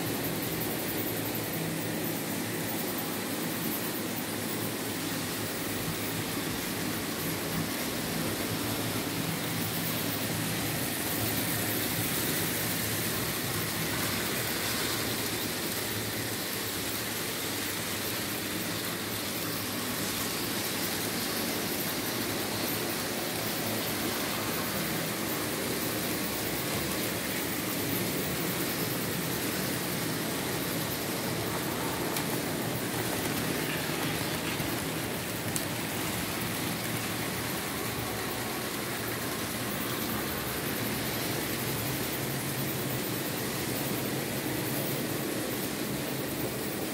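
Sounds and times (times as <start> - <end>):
model trains running on track: 0.0 - 46.9.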